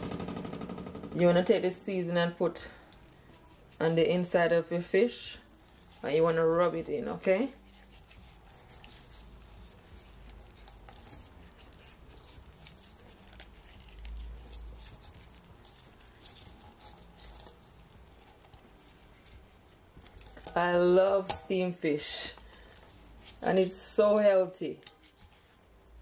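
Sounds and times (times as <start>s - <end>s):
hands rubbing fish: 2.8s - 21.6s, 22.4s - 26.0s.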